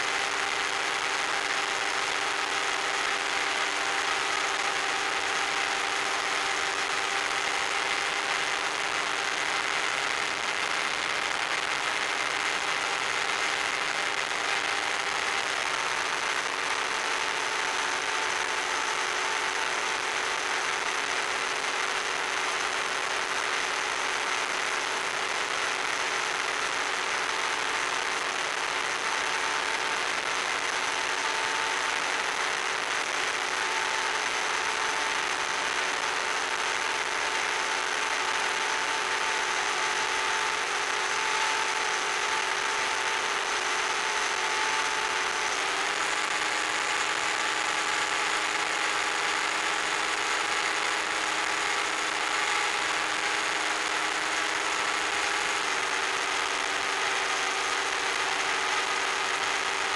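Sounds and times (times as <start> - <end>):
electric motor and propeller whine: 0.0 - 59.9
steady hiss: 0.0 - 59.9.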